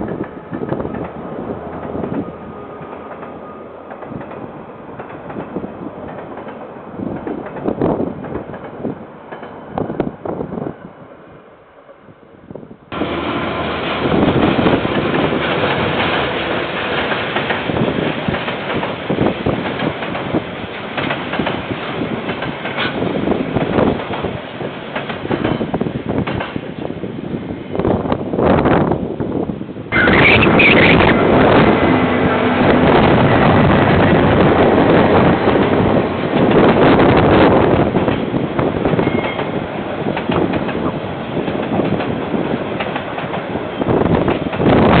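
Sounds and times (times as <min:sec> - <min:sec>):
train wheels rumbling on rails: 0:00.0 - 0:45.0
wind buffeting microphone: 0:00.0 - 0:45.0.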